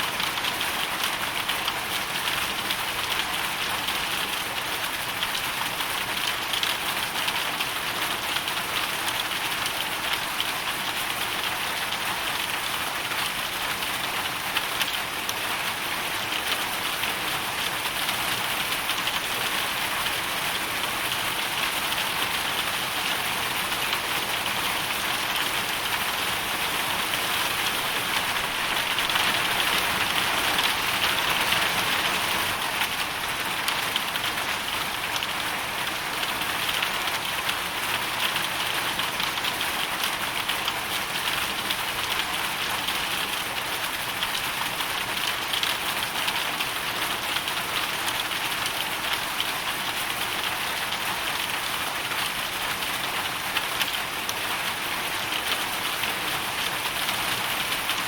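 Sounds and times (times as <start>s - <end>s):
hail and rain pelting: 0.1s - 58.0s.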